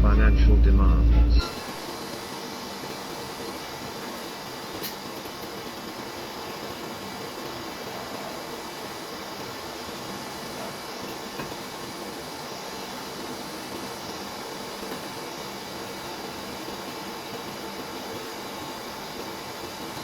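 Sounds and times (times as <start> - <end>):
steady hiss: 0.8 - 20.0.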